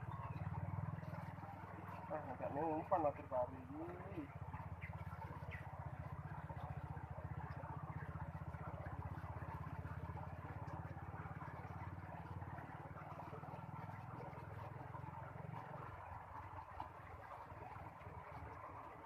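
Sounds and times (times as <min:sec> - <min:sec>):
small engine puttering: 0:00.0 - 0:19.0.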